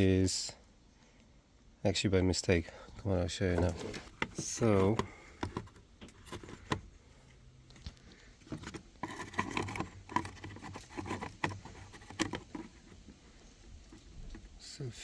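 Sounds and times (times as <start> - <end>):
handling clicks and rustling: 2.9 - 15.0.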